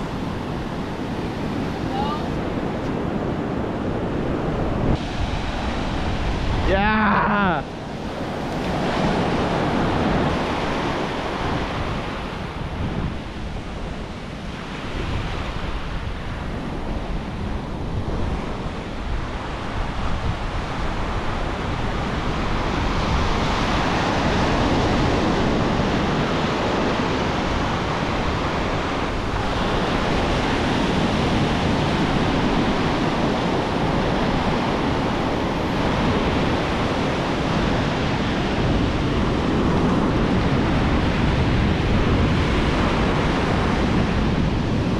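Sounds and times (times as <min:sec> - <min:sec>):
surf washing up a beach: 0:00.0 - 0:44.9.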